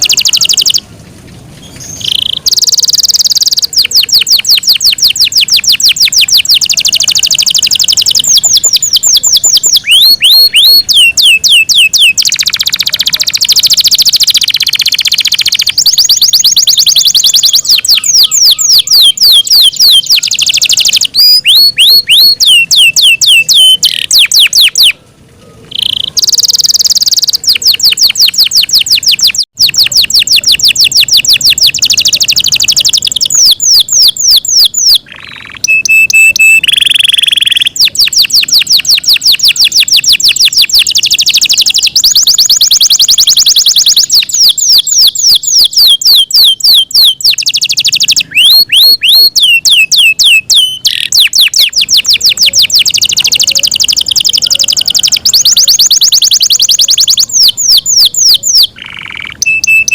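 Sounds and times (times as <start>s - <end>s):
canary singing fast trills: 0.0s - 59.9s.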